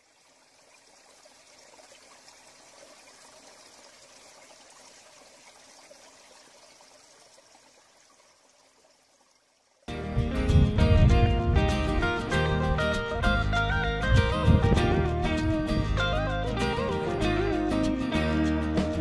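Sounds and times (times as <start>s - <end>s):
running water trickling: 0.0s - 18.6s.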